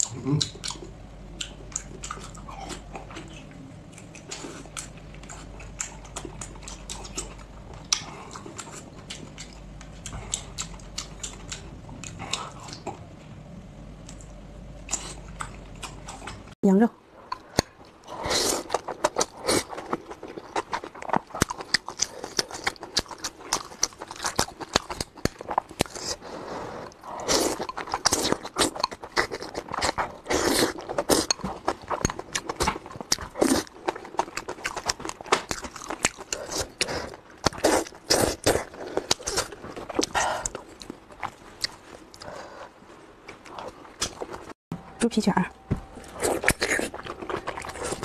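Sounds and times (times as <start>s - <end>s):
wet chewing with mouth clicks: 0.0s - 13.2s, 14.0s - 16.6s, 17.3s - 44.6s, 46.0s - 48.0s.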